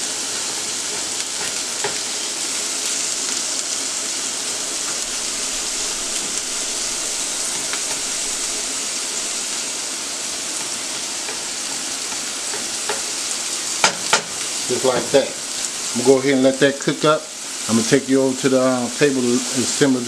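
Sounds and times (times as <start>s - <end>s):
meat and onions sizzling: 0.0s - 20.0s.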